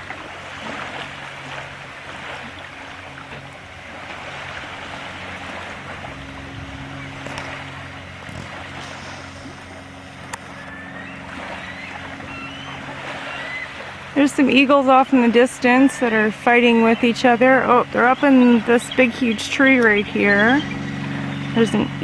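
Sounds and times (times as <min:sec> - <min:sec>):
distant motorboat engine humming: 0:00.0 - 0:22.0
small waves washing: 0:00.0 - 0:22.0
wind: 0:00.0 - 0:22.0.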